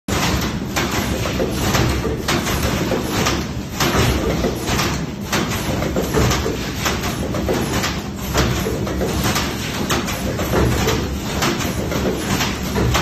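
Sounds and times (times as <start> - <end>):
machine mechanical din: 0.1 - 13.0.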